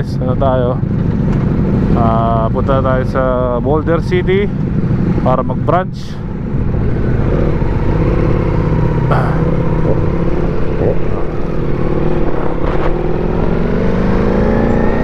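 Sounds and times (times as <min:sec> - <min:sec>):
motorcycle engine accelerating: 0:00.4 - 0:15.0.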